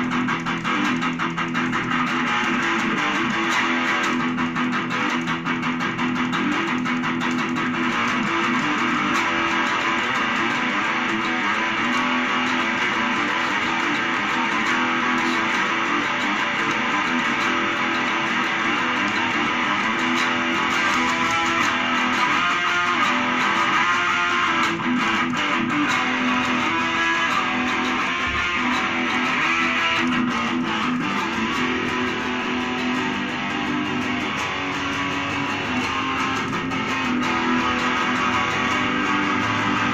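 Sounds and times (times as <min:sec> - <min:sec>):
electric guitar: 0:00.0 - 0:39.9.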